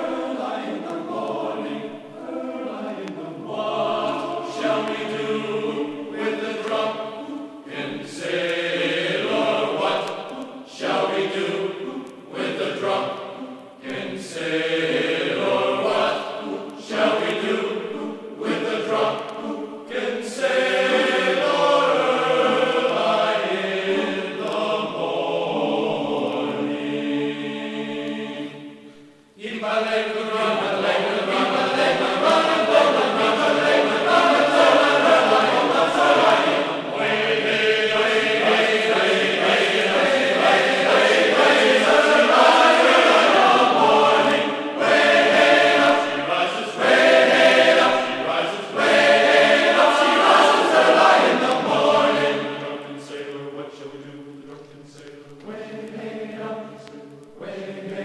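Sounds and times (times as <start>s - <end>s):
choir singing a sea shanty: 0.0s - 58.0s.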